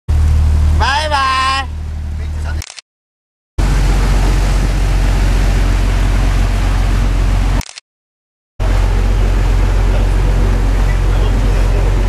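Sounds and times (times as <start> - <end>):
churning wake water: 0.1 - 2.6, 3.6 - 7.6, 8.6 - 12.0
ferry engine droning: 0.1 - 2.6, 3.6 - 7.6, 8.6 - 12.0
wind: 0.1 - 2.8, 3.6 - 7.8, 8.6 - 12.0.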